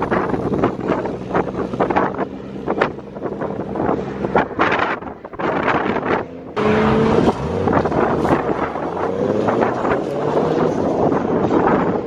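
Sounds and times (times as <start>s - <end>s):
car engine running hard: 0.0s - 12.0s
wind buffeting microphone: 0.0s - 12.0s.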